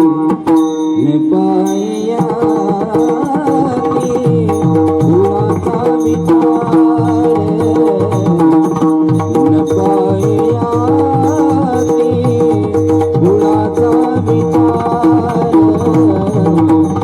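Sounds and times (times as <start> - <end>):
hand drums rhythm: 0.0 - 1.0, 1.7 - 17.0.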